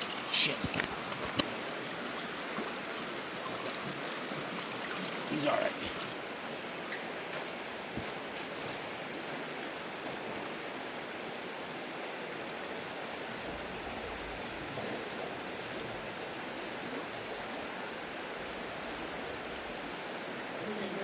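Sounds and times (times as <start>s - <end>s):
flowing river water: 0.0s - 21.0s.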